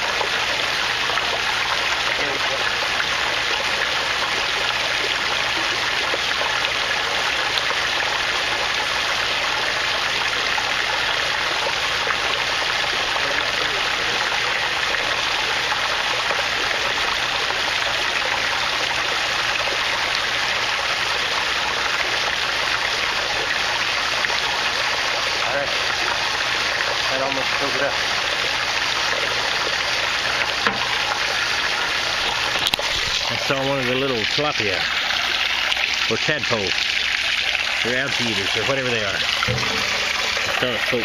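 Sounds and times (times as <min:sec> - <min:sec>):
water pouring: 0:00.0 - 0:41.0.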